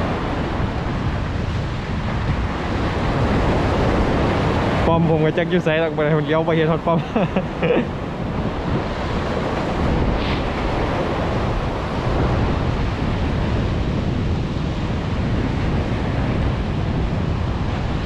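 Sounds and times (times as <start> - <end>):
sea surf washing: 0.0 - 18.0
wind buffeting microphone: 0.0 - 18.0.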